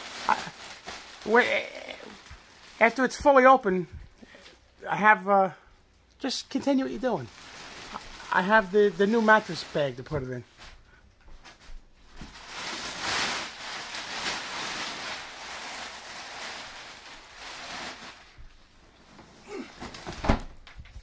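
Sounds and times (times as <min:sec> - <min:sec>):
plastic wrapping crinkling: 0:00.0 - 0:03.6, 0:06.2 - 0:21.0.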